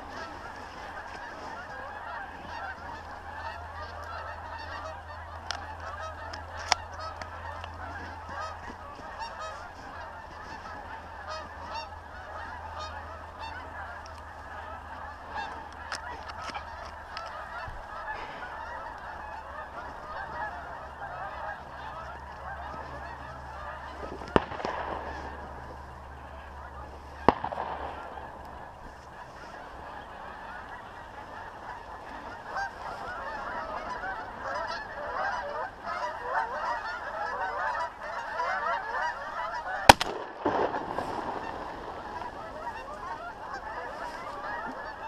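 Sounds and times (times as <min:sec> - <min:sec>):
geese honking: 0:00.0 - 0:45.0.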